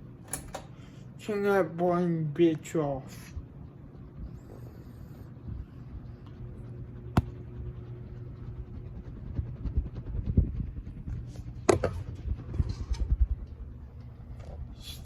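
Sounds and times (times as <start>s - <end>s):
ceiling fan motor humming: 0.0s - 15.0s.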